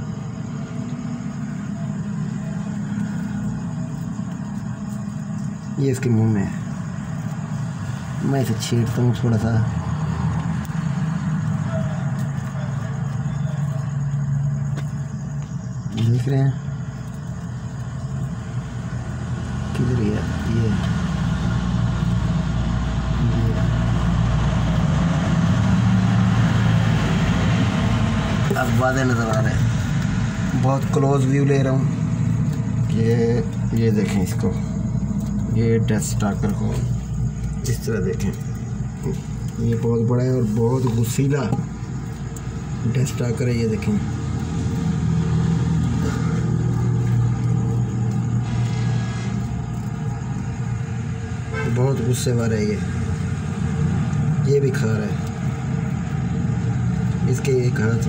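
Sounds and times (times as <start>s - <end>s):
machine humming: 0.0s - 58.0s.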